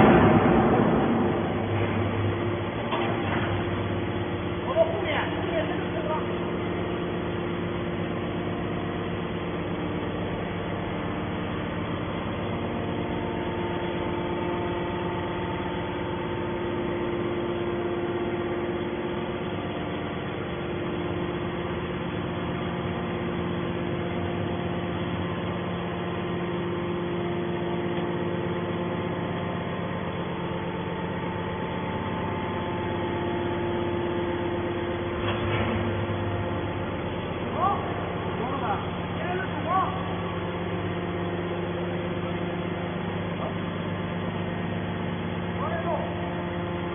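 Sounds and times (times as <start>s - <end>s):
hydraulic pump humming: 0.0s - 46.9s.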